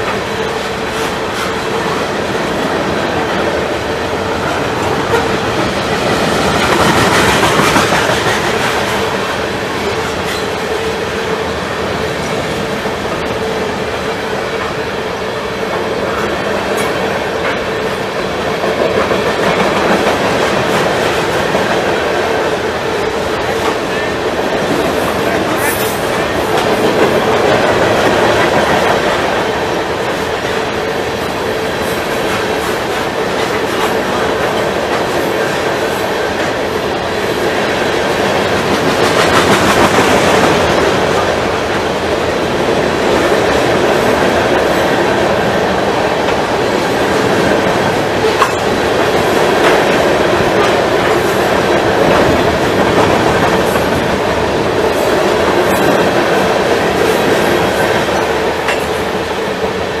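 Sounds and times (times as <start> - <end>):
train wheels running on rails: 0.0 - 60.0.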